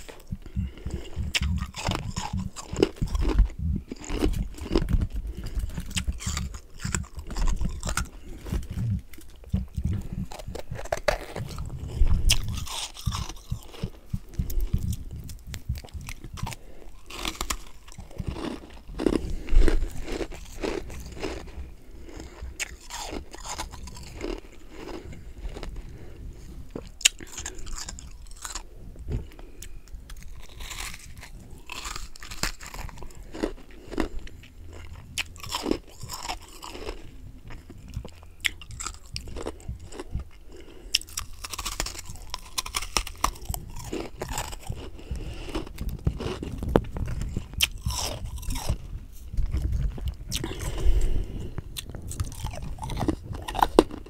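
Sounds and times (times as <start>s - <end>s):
crunching and chewing frost: 0.0s - 54.0s.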